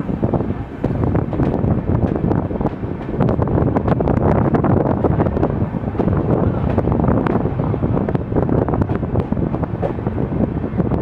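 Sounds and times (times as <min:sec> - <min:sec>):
moving train running noise: 0:00.0 - 0:11.0
wind buffeting microphone: 0:00.0 - 0:11.0.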